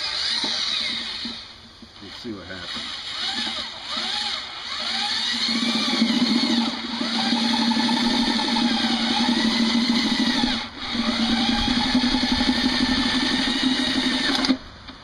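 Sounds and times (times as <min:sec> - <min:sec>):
electric drill cutting metal: 0:00.0 - 0:14.6.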